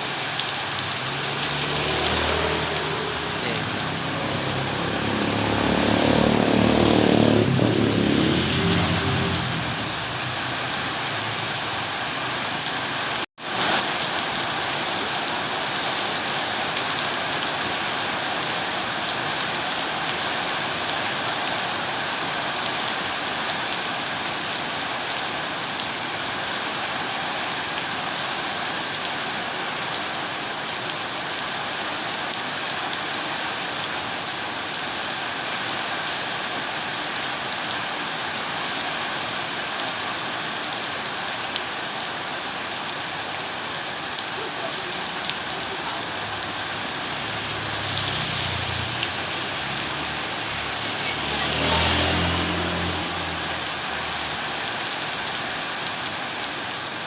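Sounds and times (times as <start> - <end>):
steady rain hiss: 0.0 - 6.9, 7.8 - 57.0.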